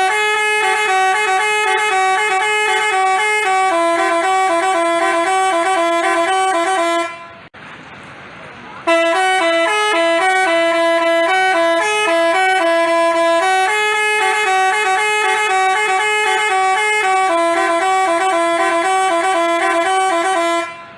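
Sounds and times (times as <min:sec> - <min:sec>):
bus horn playing melody: 0:00.0 - 0:07.5, 0:08.8 - 0:20.9.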